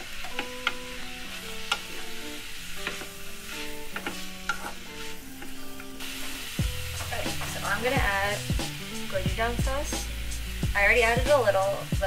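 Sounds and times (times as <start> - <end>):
food sizzling in a wok: 0.0 - 12.0
soft background music: 0.0 - 12.0.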